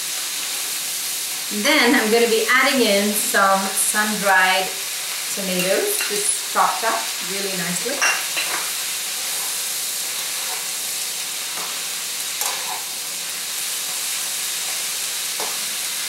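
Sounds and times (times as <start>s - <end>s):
vegetables sizzling in a wok: 0.0s - 16.0s.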